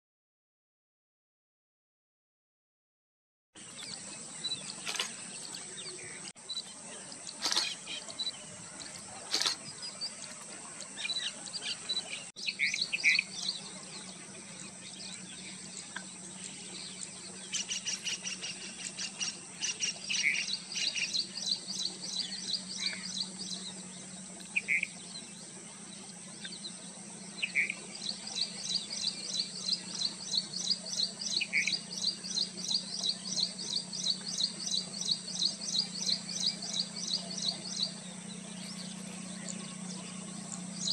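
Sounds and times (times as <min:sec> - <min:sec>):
small birds chirping: 0:03.6 - 0:40.9.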